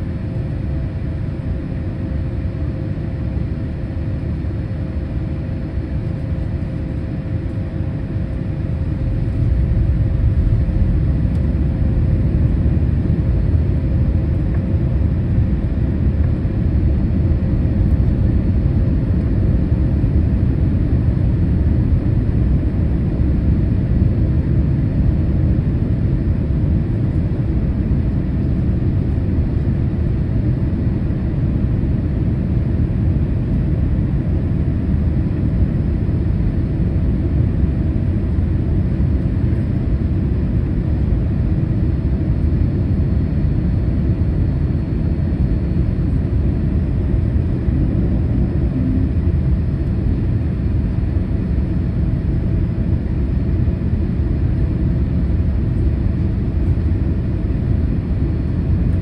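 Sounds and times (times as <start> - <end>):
airliner cabin rumble: 0.0 - 59.0
faint steady hum: 0.0 - 59.0.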